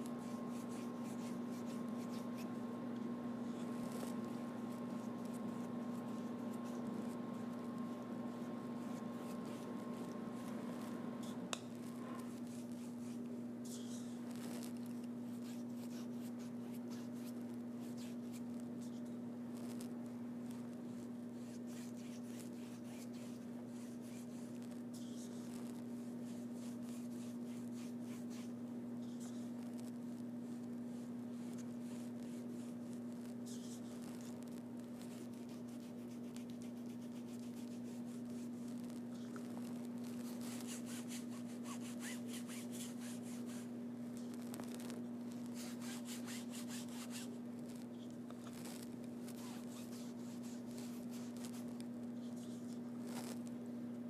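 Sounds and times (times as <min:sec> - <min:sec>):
paintbrush strokes: 0:00.0 - 0:53.5
steady electrical hum: 0:00.0 - 0:54.0.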